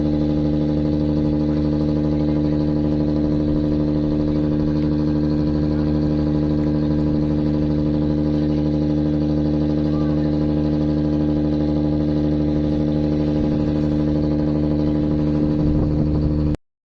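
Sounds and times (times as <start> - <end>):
engine droning steadily: 0.0 - 16.6.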